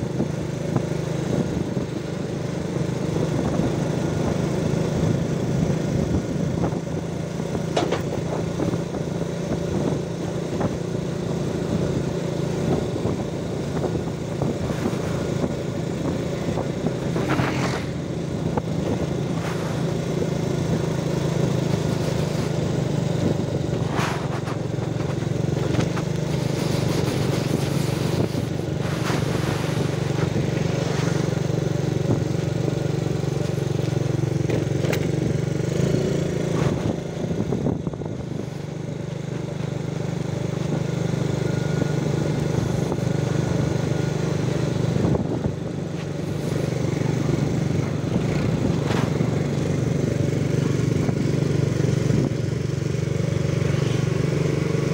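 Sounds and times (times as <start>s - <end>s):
motorcycle engine running: 0.0s - 54.9s
road and wind noise: 0.0s - 54.9s.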